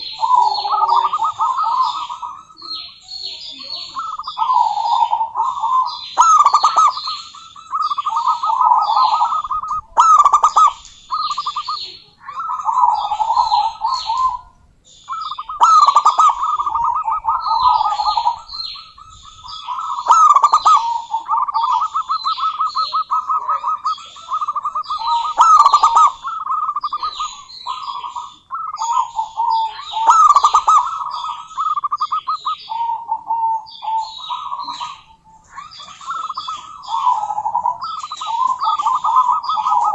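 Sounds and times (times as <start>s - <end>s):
dove trilling coos: 0.0s - 39.9s.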